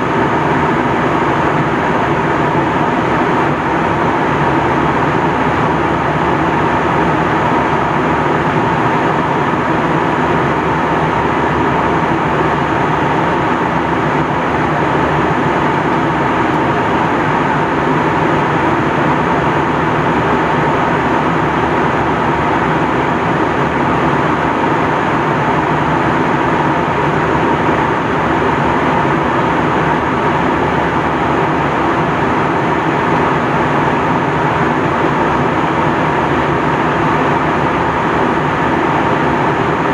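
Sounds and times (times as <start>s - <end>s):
aircraft cabin engine rush: 0.0s - 39.9s
constant hum: 0.0s - 39.9s.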